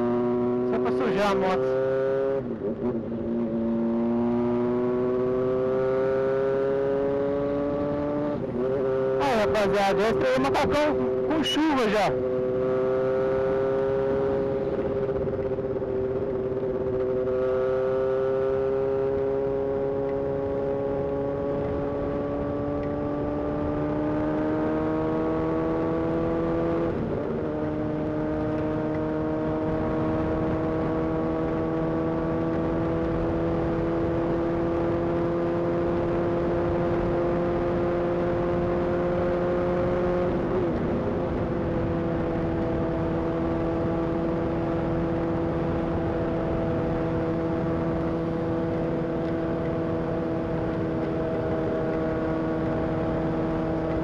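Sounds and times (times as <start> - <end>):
motorcycle engine accelerating: 0.0 - 54.0
wind and road noise: 0.0 - 54.0.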